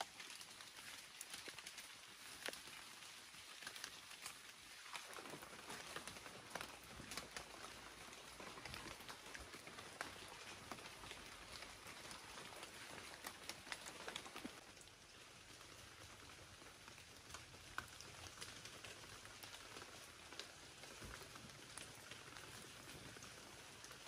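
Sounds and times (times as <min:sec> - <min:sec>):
light rain patter on leaves: 0:00.0 - 0:24.0
water drips on leaves: 0:00.0 - 0:24.0.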